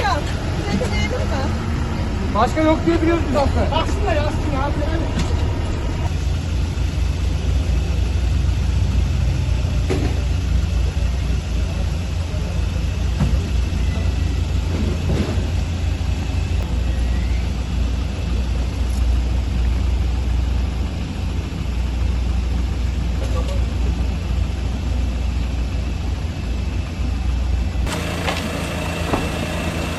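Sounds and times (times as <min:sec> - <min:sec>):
low engine rumble: 0:00.0 - 0:29.9.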